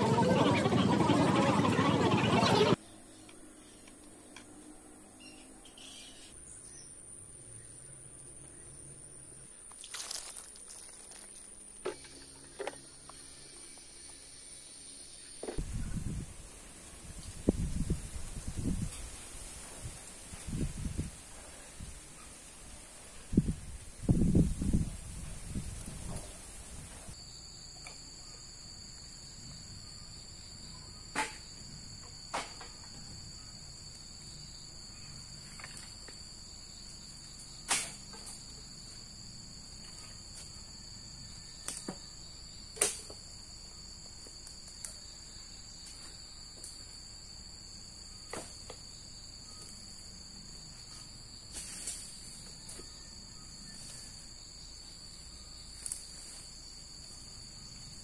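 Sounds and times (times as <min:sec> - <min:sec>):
insects trilling: 0:05.2 - 0:19.6, 0:23.1 - 0:58.0.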